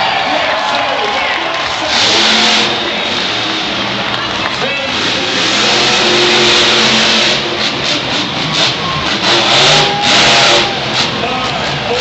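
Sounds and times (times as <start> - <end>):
monster truck engine revving: 0.2 - 12.0.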